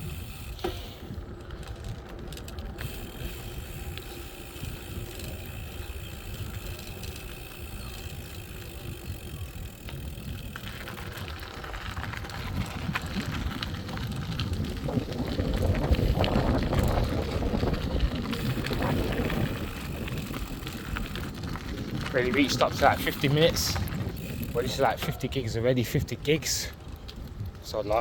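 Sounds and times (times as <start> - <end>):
bicycle tyre noise: 0.0 - 28.0
small ticks and rattles: 0.0 - 28.0
wind rumble on microphone: 0.0 - 28.0.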